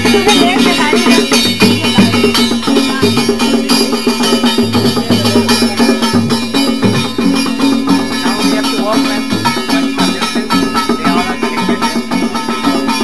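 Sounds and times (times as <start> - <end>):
music with drums and percussion: 0.0 - 13.0.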